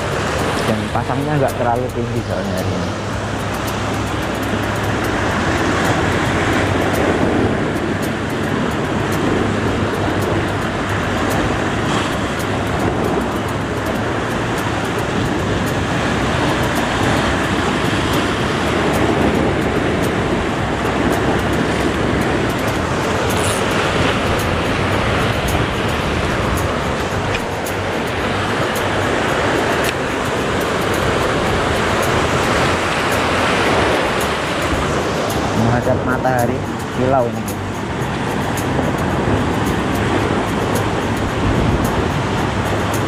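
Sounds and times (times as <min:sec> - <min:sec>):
sea waves breaking on rocks: 0:00.0 - 0:43.0.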